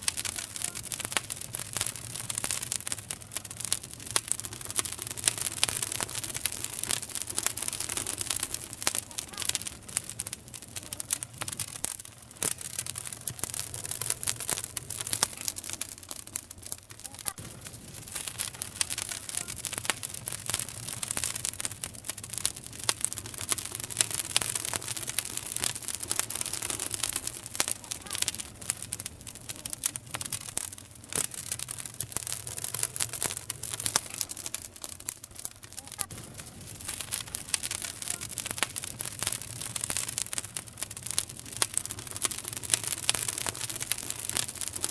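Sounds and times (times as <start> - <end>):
campfire crackling and popping: 0.0 - 44.9
fire hiss: 0.0 - 44.9.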